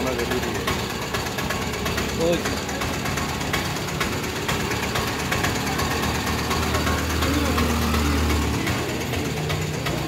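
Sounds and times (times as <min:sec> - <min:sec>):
rattles and knocks: 0:00.0 - 0:10.0
small vehicle engine running: 0:00.0 - 0:10.0.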